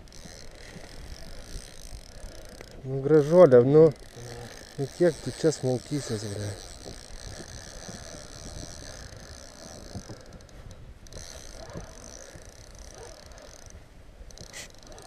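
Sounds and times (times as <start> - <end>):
fishing reel whirring: 0.0 - 15.0.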